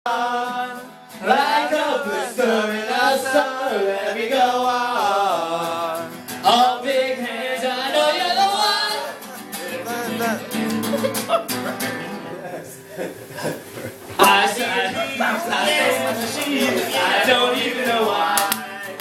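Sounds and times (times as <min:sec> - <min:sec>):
voices singing unaccompanied: 0:00.1 - 0:12.1, 0:14.0 - 0:19.0.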